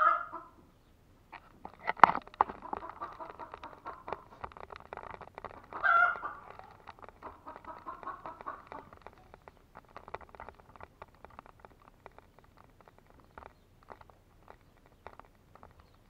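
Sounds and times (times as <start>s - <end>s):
chickens clucking: 0.0s - 16.0s
small clicks and rustles: 1.2s - 16.0s.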